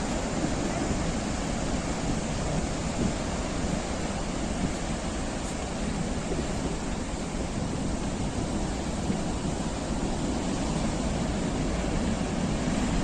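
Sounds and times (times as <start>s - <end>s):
waves breaking: 0.0s - 13.0s.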